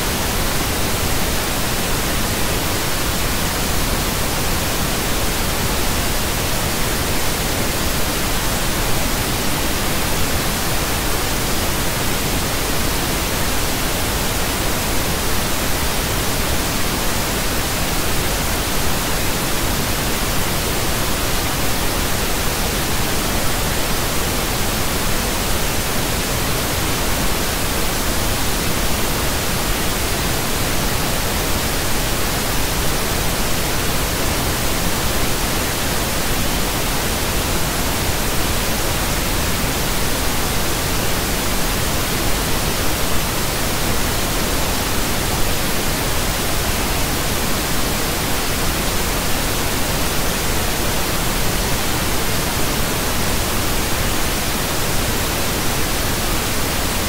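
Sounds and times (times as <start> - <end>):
pink noise hiss: 0.0 - 57.0.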